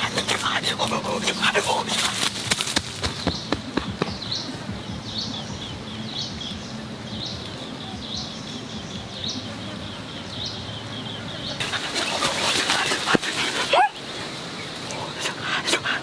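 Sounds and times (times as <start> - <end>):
bird chirping: 0.0 - 15.4
low background noise: 0.0 - 16.0.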